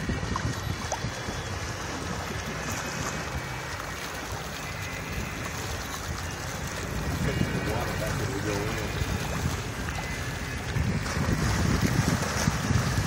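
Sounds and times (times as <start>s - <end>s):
water washing around boat: 0.0s - 13.0s
wind noise: 0.0s - 13.0s.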